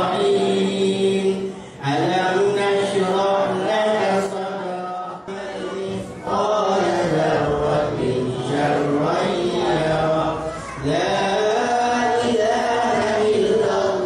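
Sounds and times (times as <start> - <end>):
person chanting recitation: 0.0 - 14.0.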